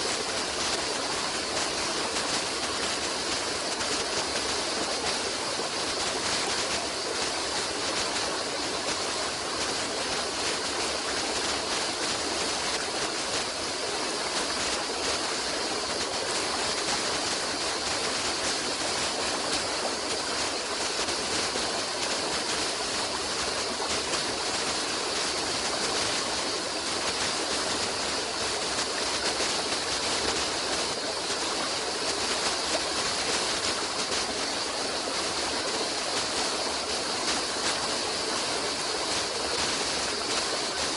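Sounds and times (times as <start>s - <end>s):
stream running water: 0.0s - 40.9s.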